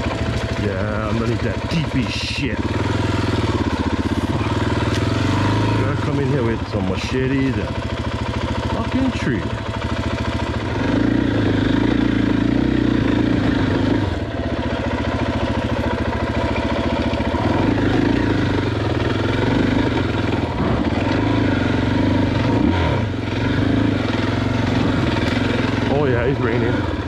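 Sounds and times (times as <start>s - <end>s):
dirt bike engine under throttle: 0.0s - 27.0s.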